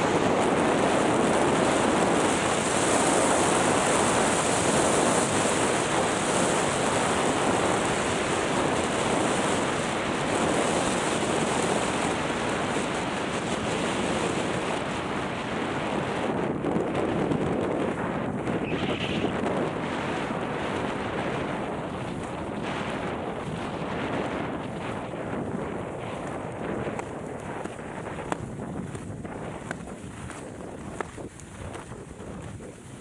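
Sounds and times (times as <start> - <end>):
skis gliding over snow: 0.0 - 33.0
wind rushing over microphone: 0.0 - 33.0.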